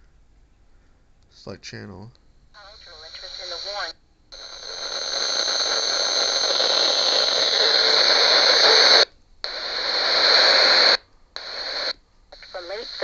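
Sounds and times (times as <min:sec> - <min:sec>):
radio static hiss: 0:02.6 - 0:13.0.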